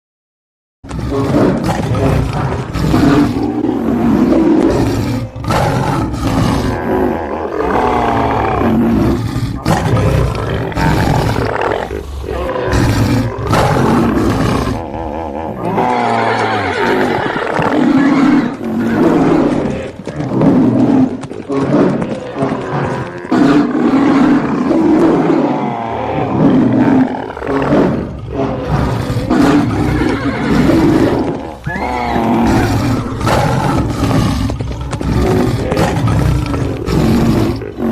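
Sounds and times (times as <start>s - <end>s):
animal roars and growls: 0.8s - 37.9s.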